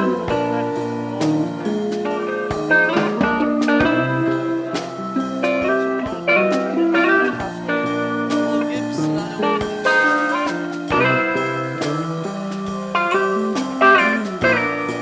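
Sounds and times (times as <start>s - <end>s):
plucked string instrumental music: 0.0s - 15.0s.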